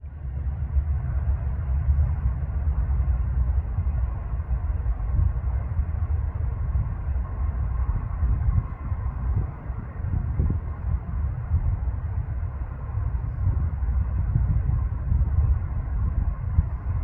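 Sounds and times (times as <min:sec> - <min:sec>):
distant light aircraft engine rumble: 0:00.0 - 0:17.0
faint higher drone: 0:00.0 - 0:17.0.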